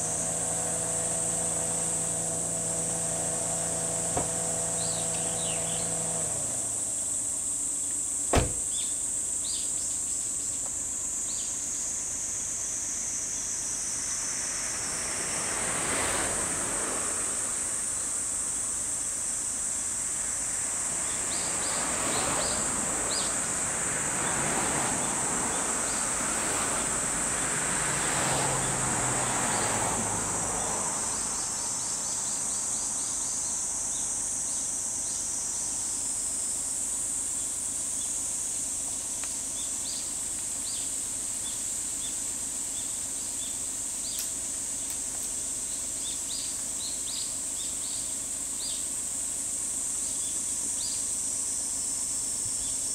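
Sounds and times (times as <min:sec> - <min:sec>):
high-pitched insect drone: 0:00.0 - 0:52.9.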